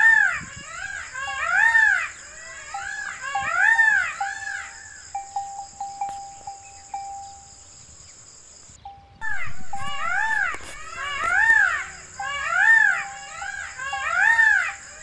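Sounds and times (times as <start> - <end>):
peafowl wailing calls: 0.0 - 7.4, 9.2 - 15.0
high insect hiss: 0.0 - 15.0.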